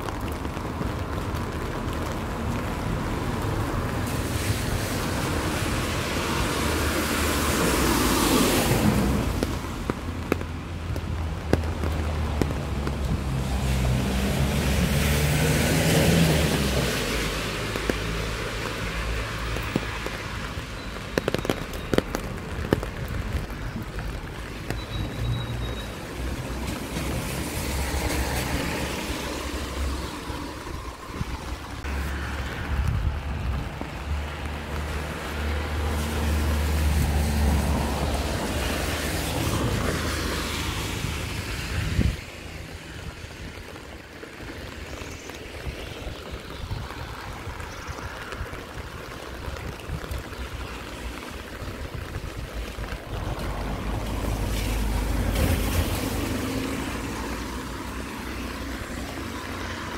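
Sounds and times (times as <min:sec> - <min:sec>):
low traffic rumble: 0:00.0 - 0:59.9
tyres swishing on wet road: 0:00.0 - 0:59.9.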